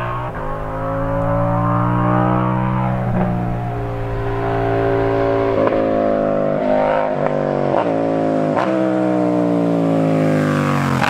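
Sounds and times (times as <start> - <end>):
exhaust cracks: 0.0 - 9.3
motorcycle engine accelerating: 0.0 - 11.0.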